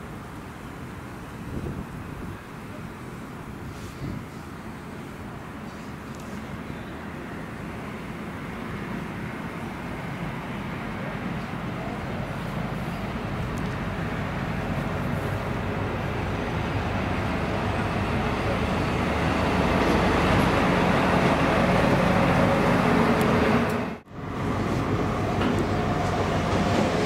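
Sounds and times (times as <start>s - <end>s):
diesel locomotive passing: 0.0s - 27.0s.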